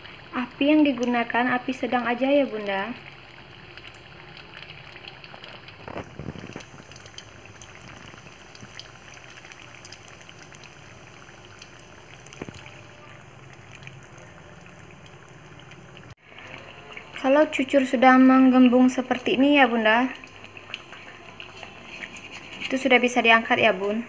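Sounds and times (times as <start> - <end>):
batter deep-frying in hot oil: 0.0 - 24.0.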